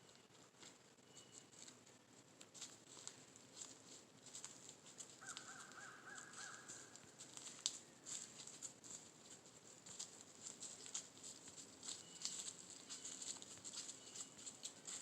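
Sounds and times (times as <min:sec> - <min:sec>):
light ticks and rustles pattering: 0:00.0 - 0:15.0.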